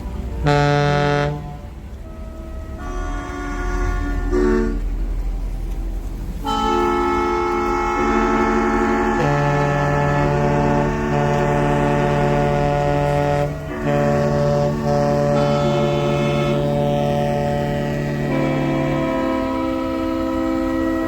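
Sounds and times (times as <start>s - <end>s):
boat horn blasts: 0.3s - 5.2s, 6.4s - 21.0s.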